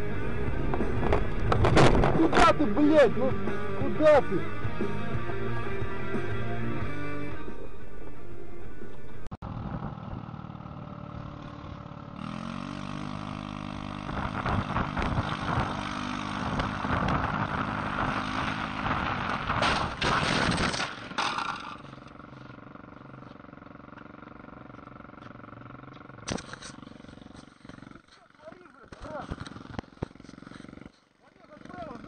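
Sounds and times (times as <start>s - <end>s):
road noise: 0.0s - 32.0s
vehicle engine: 0.0s - 32.0s.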